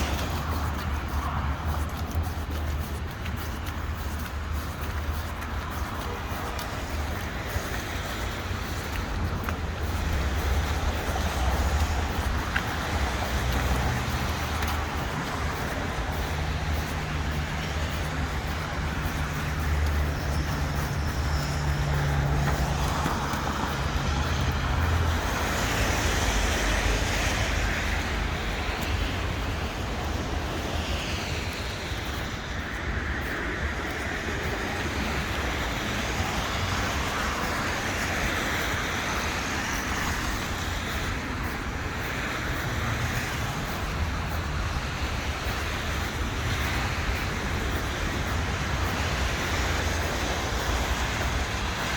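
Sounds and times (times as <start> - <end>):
cars driving past: 0.0 - 51.9.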